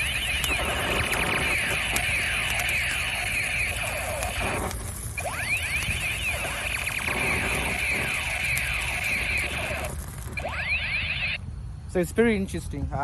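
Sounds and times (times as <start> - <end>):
toy gun siren-like warble: 0.0 - 11.4.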